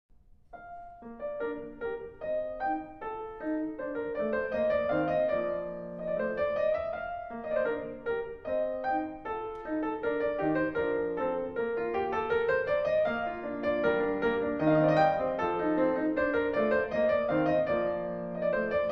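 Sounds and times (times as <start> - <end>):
piano music: 0.4 - 18.9.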